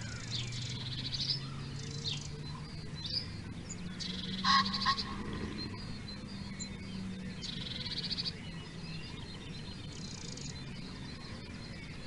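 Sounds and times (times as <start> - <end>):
faint low hum: 0.0 - 12.0
sparrows chirping: 0.0 - 12.0.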